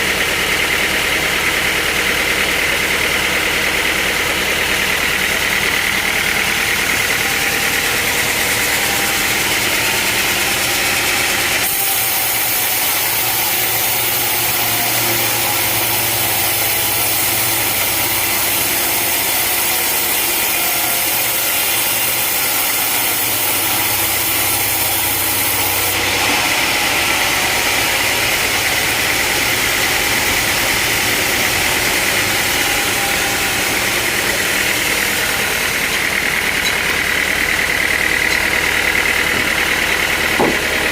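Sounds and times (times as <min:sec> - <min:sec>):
sawmill machinery hum: 0:00.0 - 0:40.9.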